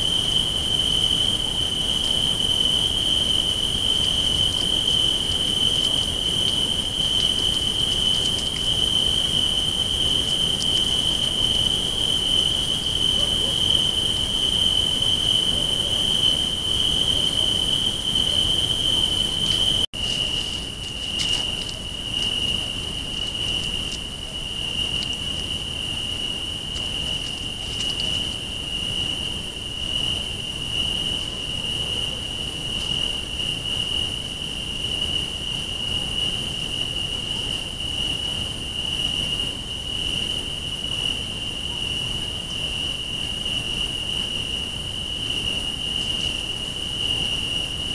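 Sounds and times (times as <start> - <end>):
crickets trilling: 0.0 - 47.9.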